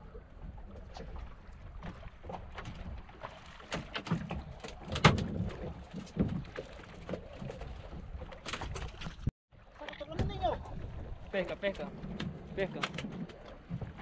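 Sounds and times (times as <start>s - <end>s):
knocks and splashes: 0.0s - 14.0s
water lapping against boat hull: 0.0s - 14.0s.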